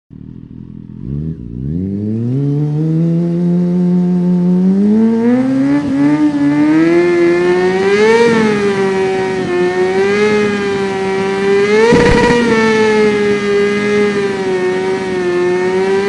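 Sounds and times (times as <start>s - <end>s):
motorcycle engine revving: 0.1s - 16.0s.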